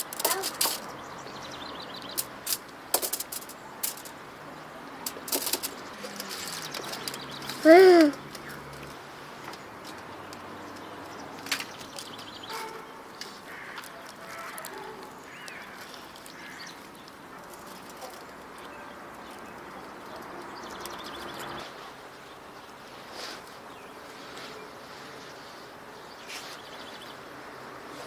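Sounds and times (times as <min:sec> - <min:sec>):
birds chirping and trilling: 0:00.0 - 0:22.9.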